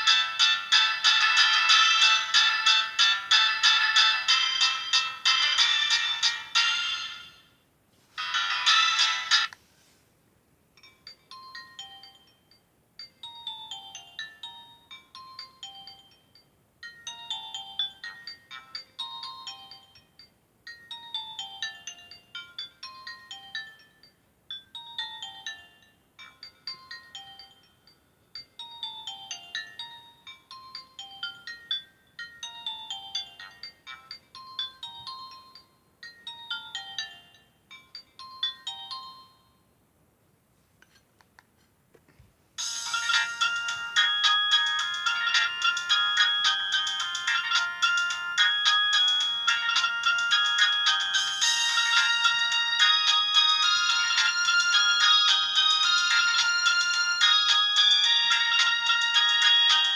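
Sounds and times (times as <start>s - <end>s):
phone ringtone melody: 0.0s - 7.6s, 8.2s - 9.5s, 10.8s - 39.7s, 42.6s - 59.9s.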